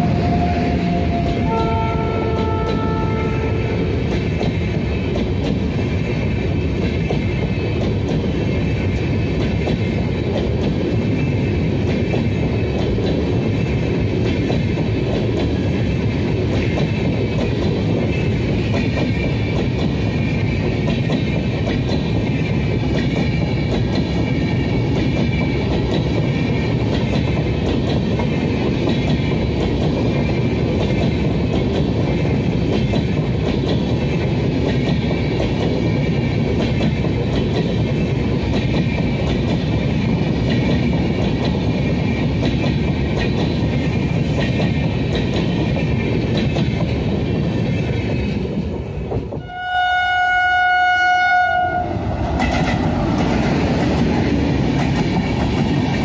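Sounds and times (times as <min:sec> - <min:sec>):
train wheels rumbling on rail: 0:00.0 - 0:56.0
rapid clickety-clack: 0:01.2 - 0:49.4, 0:52.3 - 0:56.0.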